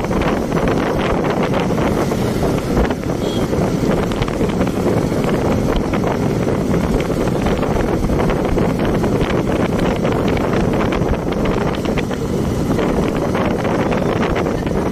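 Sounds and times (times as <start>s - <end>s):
motorcycle running: 0.0s - 14.9s
wind rushing over microphone: 0.0s - 14.9s.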